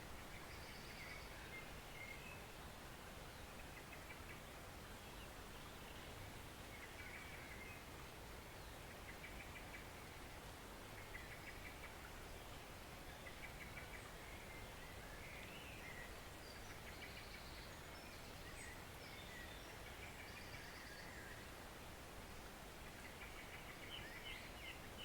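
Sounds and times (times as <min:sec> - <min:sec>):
forest stream flowing: 0:00.0 - 0:25.0.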